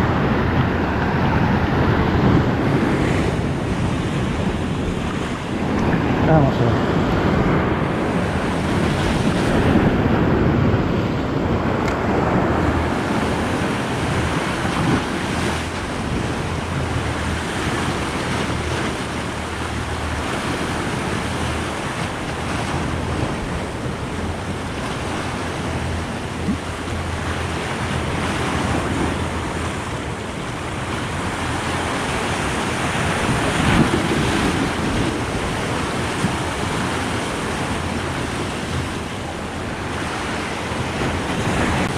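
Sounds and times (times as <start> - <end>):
surf breaking on rocks: 0.0 - 41.9
wind buffeting microphone: 0.0 - 41.9.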